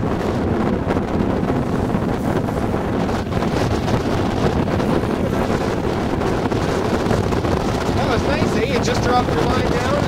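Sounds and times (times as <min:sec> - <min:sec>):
wind blowing across microphone: 0:00.0 - 0:10.0.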